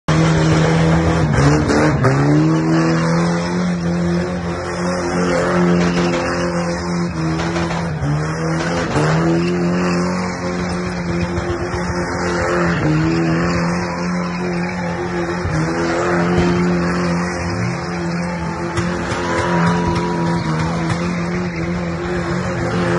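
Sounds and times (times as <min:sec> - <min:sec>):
car engine revving high: 0:00.1 - 0:22.9
tyres squealing: 0:01.4 - 0:22.9.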